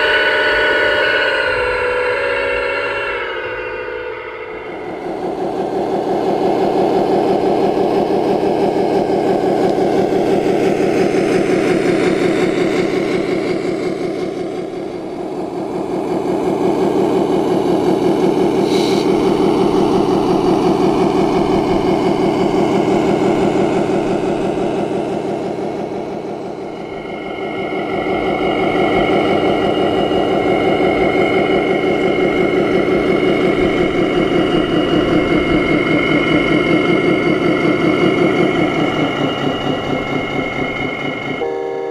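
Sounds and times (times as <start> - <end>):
steady high whine: 0.0 - 41.9
model vehicle engine running: 4.9 - 41.4.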